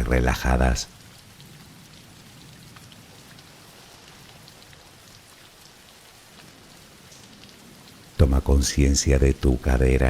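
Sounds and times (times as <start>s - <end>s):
soft rain falling: 0.0s - 10.0s.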